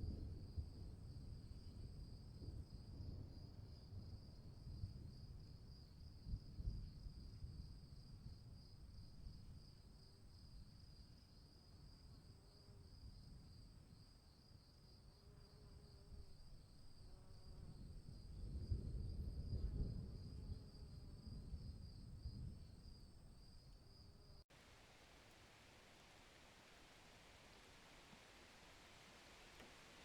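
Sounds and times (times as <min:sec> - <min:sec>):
crickets chirping: 0:00.4 - 0:30.0.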